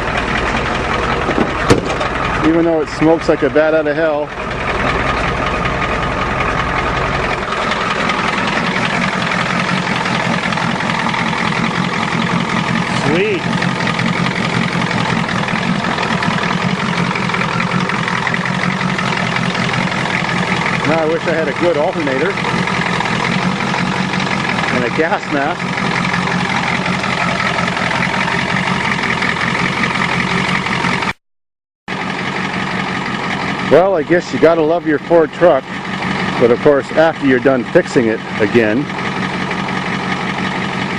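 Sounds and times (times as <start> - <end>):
diesel truck engine idling: 0.0 - 31.2, 31.9 - 40.9.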